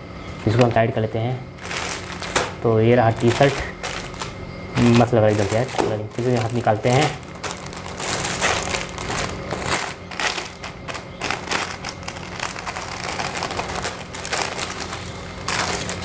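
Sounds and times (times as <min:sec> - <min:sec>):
plastic bag crinkling: 0:01.6 - 0:16.0.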